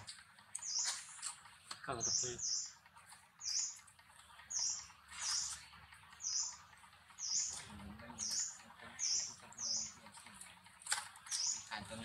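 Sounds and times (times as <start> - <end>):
bird chirping: 0.0 - 10.2, 11.2 - 12.0.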